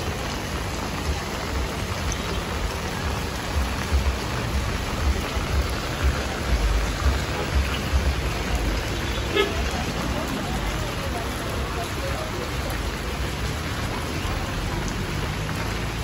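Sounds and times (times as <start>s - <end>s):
rain on wet pavement: 0.0s - 16.0s.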